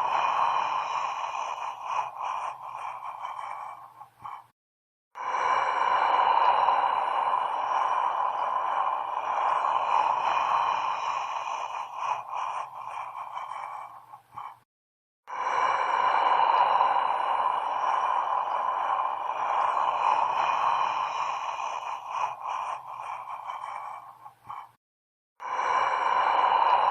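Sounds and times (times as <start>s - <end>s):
hissing drone: 0.0s - 4.4s, 5.2s - 14.5s, 15.4s - 24.6s.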